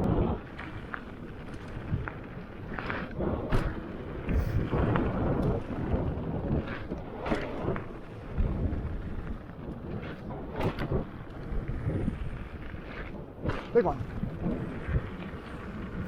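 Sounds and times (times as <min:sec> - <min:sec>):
bike knocking and rattling: 0:00.0 - 0:16.0
bike tyres rumbling on dirt: 0:00.0 - 0:16.0
wind buffeting microphone: 0:00.0 - 0:16.0.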